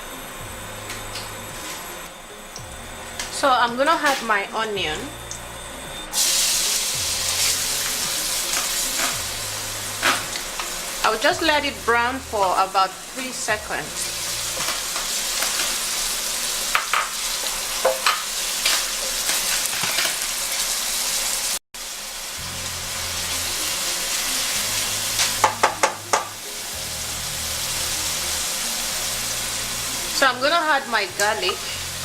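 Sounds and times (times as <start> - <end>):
onion sizzling in hot oil: 6.1 - 32.0.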